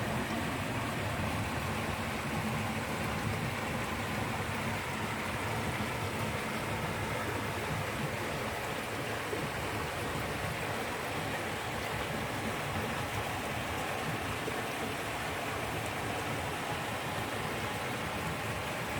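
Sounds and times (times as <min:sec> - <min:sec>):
stream water rushing: 0:00.0 - 0:18.9.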